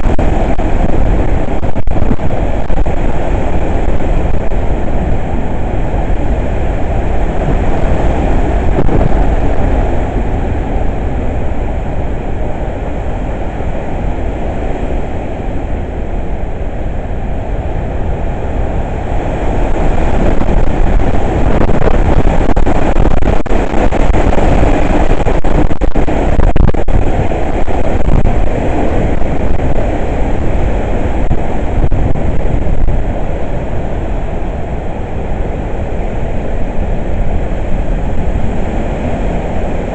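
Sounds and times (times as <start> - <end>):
wind gusting against microphone: 0.0 - 39.9.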